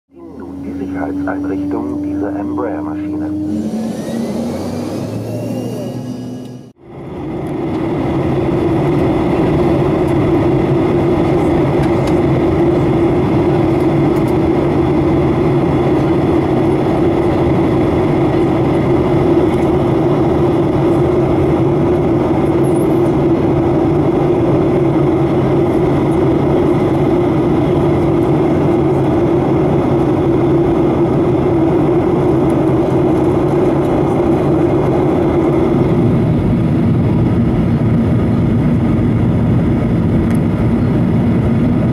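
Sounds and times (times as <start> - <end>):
jet engines humming: 0.1 - 41.9.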